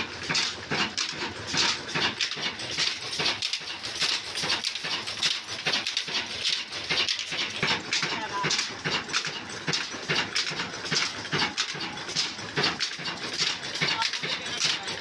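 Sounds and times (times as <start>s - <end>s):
diesel engine chuffing: 0.0s - 15.0s.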